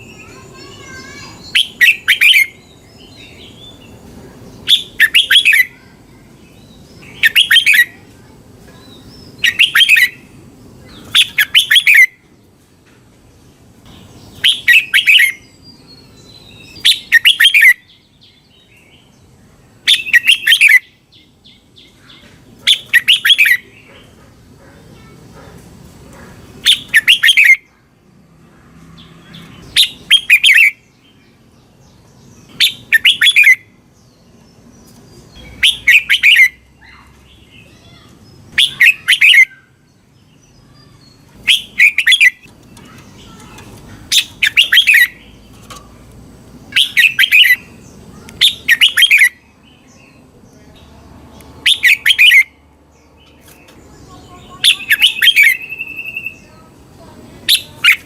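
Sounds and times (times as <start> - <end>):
bird chirping song phrases: 0.0 - 58.0.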